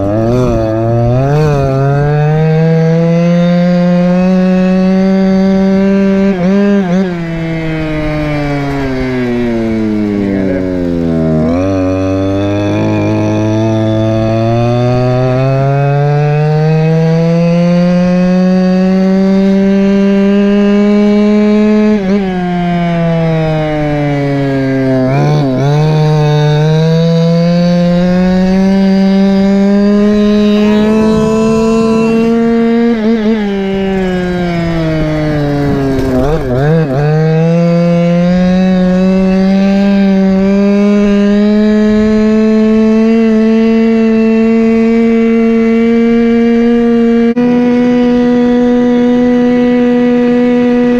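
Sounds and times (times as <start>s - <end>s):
scooter two-stroke engine revving: 0.0s - 50.9s.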